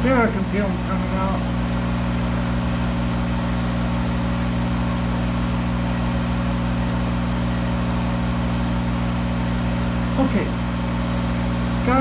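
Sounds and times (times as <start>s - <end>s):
lathe humming: 0.0s - 12.0s.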